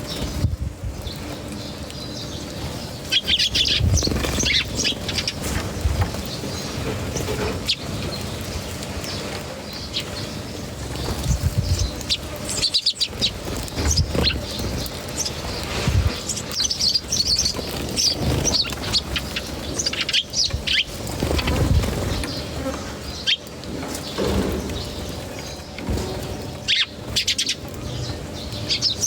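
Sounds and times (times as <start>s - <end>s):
small birds chirping: 0.0s - 29.0s
wings fluttering: 0.0s - 29.0s.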